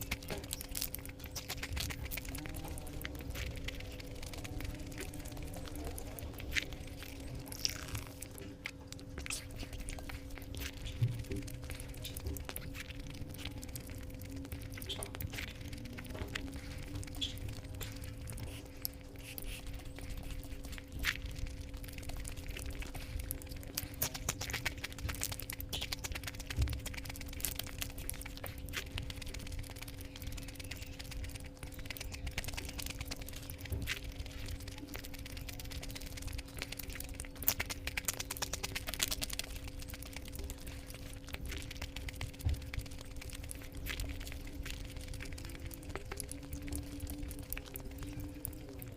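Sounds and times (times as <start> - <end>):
chewing food wet clicks: 0.0 - 48.9
steady low hum: 0.0 - 48.9.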